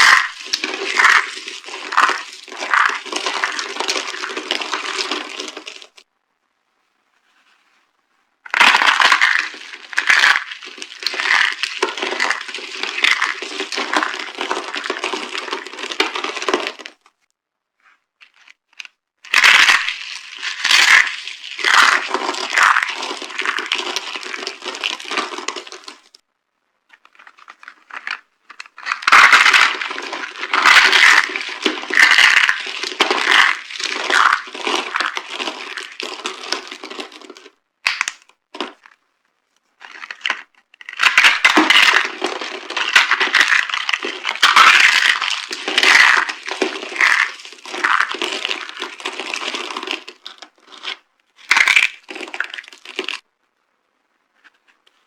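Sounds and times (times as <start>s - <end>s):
dry soap crushed crunching: 0.0s - 6.0s, 8.5s - 17.1s, 18.2s - 26.2s, 26.9s - 39.0s, 39.8s - 53.2s.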